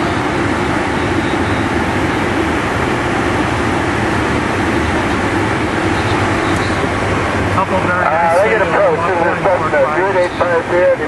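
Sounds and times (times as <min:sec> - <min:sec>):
jet engines humming: 0:00.0 - 0:11.0.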